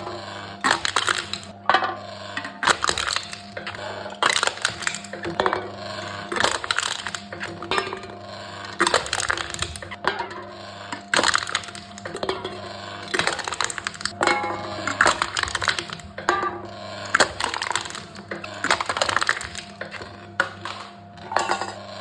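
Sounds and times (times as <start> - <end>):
machine crushing drink cans: 0.0 - 22.0.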